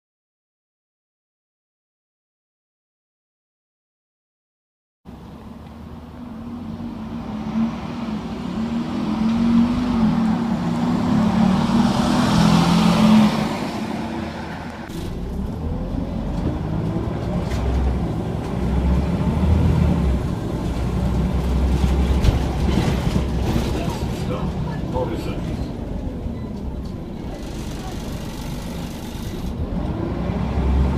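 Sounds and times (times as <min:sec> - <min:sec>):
bus engine pulling away: 0:05.1 - 0:30.9.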